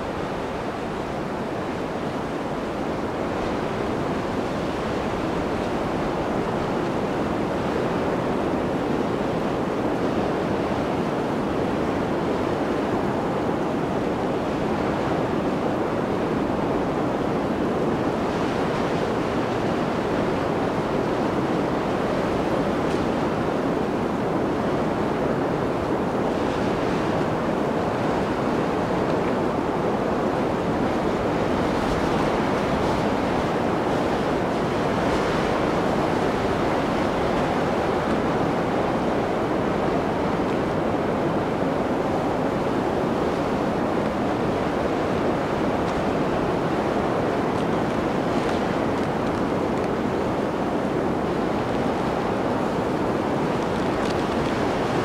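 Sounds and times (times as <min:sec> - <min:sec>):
blizzard wind blowing: 0:00.0 - 0:55.0.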